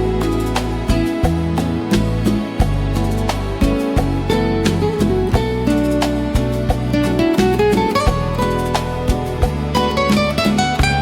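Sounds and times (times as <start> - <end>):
bass line: 0.0 - 11.0
plucked jazz guitar: 0.0 - 11.0.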